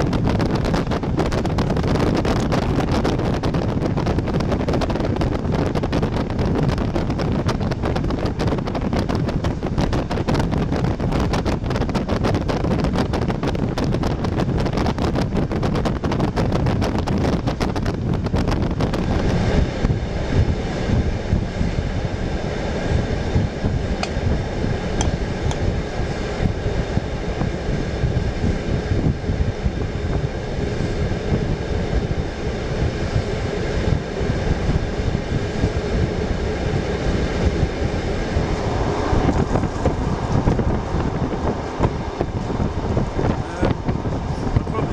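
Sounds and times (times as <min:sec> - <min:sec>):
train running rumble: 0:00.0 - 0:44.9
wind rushing over microphone: 0:00.0 - 0:44.9.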